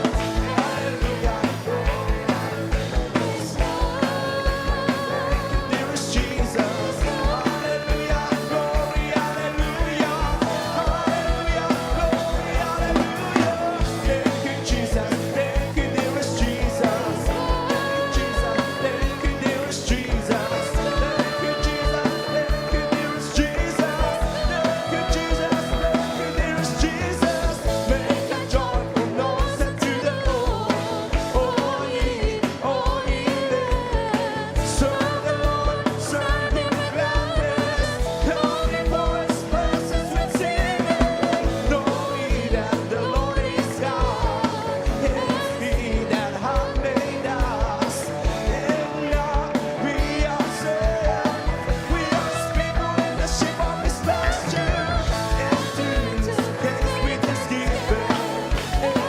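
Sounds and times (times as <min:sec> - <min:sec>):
band playing: 0:00.0 - 0:59.0
choir singing gospel song: 0:00.0 - 0:59.0
steady drum beat: 0:00.0 - 0:59.0.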